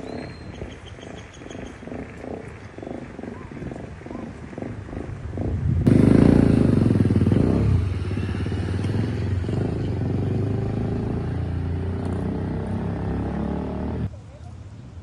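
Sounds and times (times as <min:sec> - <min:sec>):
vehicle engine running: 0:00.0 - 0:14.1.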